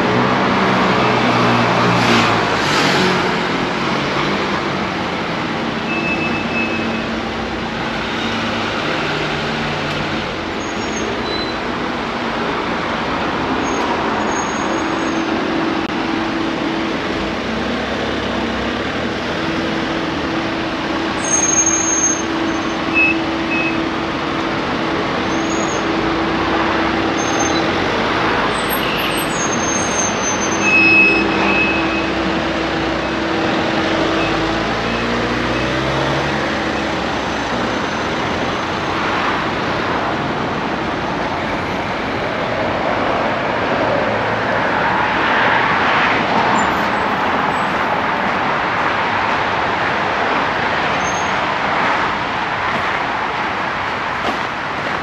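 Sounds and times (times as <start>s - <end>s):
passing vehicles: 0.0s - 55.0s.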